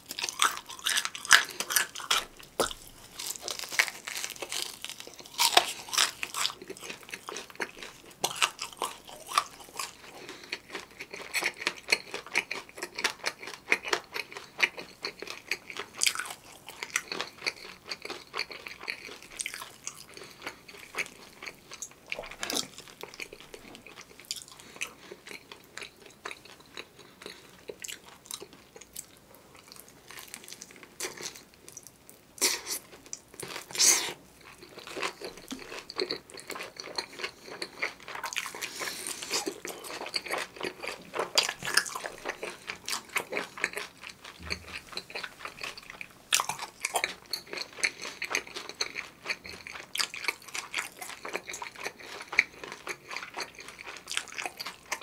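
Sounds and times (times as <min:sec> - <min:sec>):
biting and chewing crunchy food: 0:00.0 - 0:55.0.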